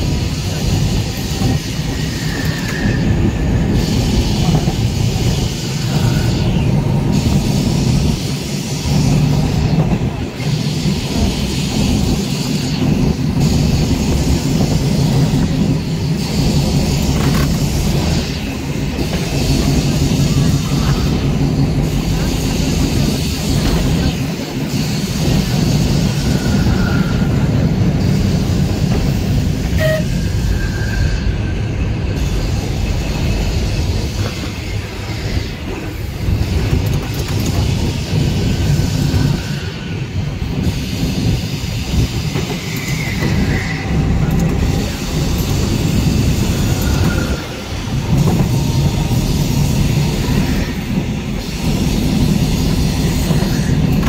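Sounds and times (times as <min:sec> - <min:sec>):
tram rumbling on rails: 0:00.0 - 0:54.0.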